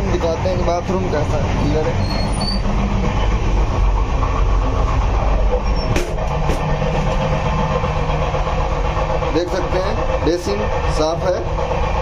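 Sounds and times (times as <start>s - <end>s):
train rumble and rattle: 0.0s - 12.0s.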